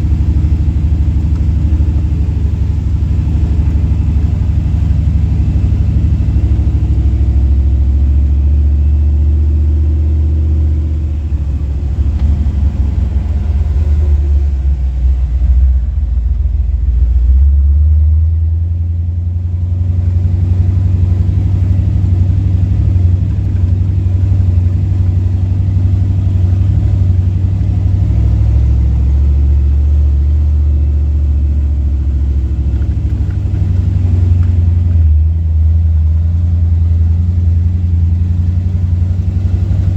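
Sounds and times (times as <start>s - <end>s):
car engine driving: 0.0s - 39.9s.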